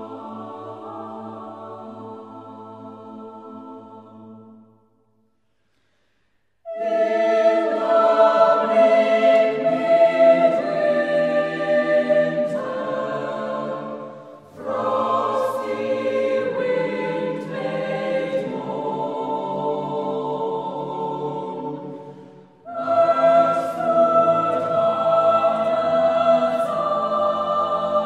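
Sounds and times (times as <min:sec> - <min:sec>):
choir singing sustained chords: 0:00.0 - 0:05.4, 0:06.6 - 0:28.0.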